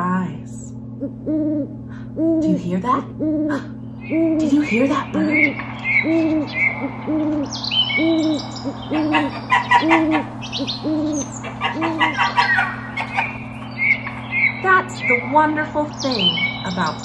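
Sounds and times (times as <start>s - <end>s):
owl hooting: 0.8s - 17.0s
songbirds chirping and trilling: 0.8s - 17.0s.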